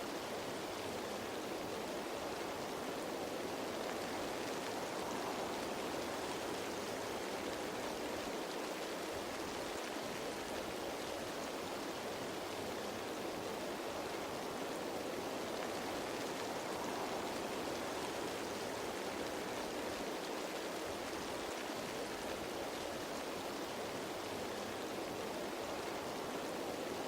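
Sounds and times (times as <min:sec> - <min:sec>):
rain falling on leaves: 0:00.0 - 0:27.0.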